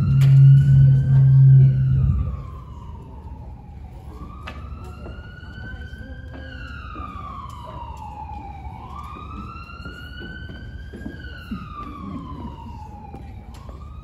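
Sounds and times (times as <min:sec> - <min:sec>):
wailing siren: 0:00.0 - 0:14.0.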